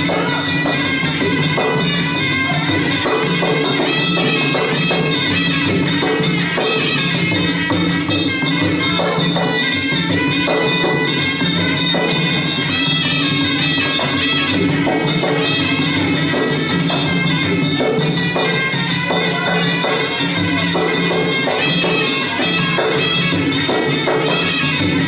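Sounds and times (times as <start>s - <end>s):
drums: 0.0s - 25.0s
small cymbals: 0.0s - 25.0s.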